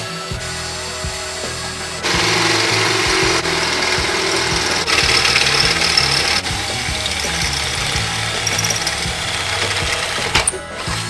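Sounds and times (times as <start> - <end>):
cordless drill boring into steel: 2.0 - 11.0.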